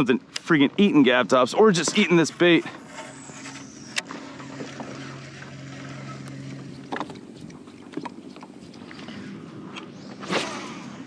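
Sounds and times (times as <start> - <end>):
water lapping against kayak hull: 1.7 - 11.0.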